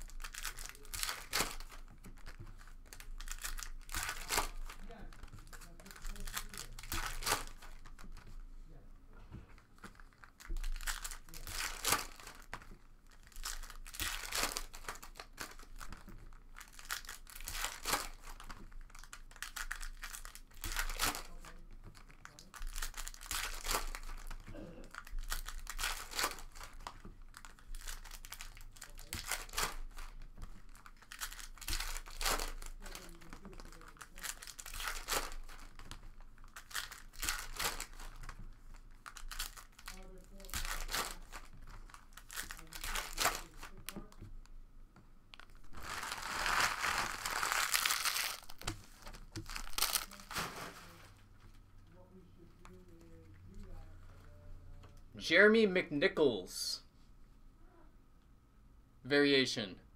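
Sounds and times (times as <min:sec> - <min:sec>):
foil wrappers crinkling and tearing: 0:00.0 - 0:08.4, 0:09.7 - 0:44.3, 0:45.3 - 0:51.2.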